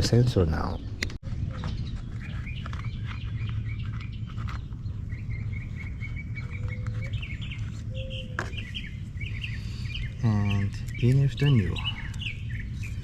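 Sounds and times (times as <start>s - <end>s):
birds chirping: 0.0s - 13.0s
steady low rumble: 0.0s - 13.0s
rapidly repeated bird notes: 0.4s - 13.0s.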